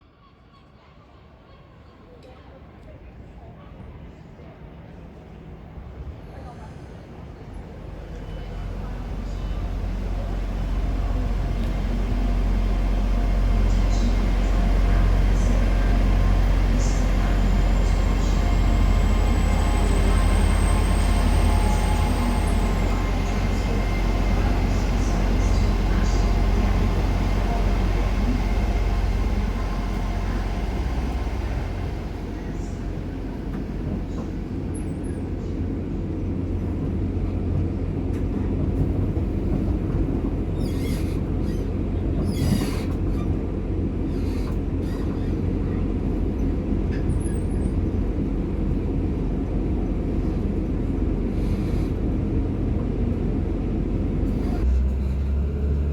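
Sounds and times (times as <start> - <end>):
train rumbling: 2.8 - 55.9.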